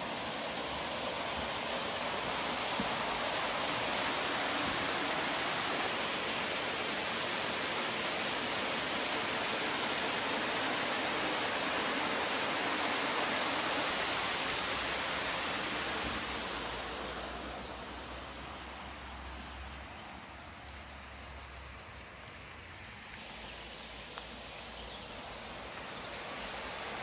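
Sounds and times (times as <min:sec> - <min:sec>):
stream water rushing over rocks: 0:00.0 - 0:27.0.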